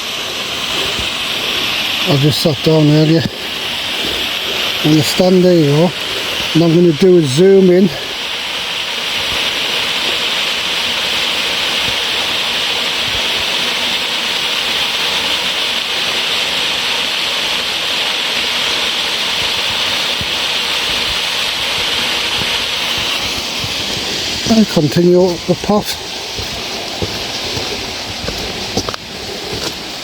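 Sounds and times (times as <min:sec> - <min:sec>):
fast-flowing stream water: 0:00.0 - 0:30.0.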